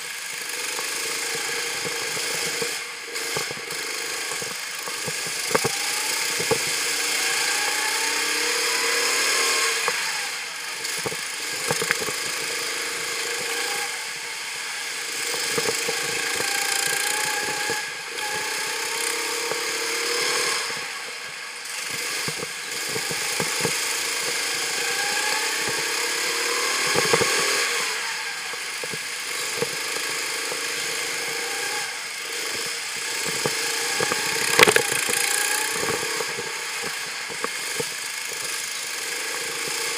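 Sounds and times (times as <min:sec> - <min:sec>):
sharp clicks and knocks: 0:00.0 - 0:07.4, 0:10.8 - 0:14.0, 0:15.2 - 0:27.8, 0:28.5 - 0:31.3, 0:32.3 - 0:39.9
go-kart engine accelerating: 0:00.0 - 0:39.9.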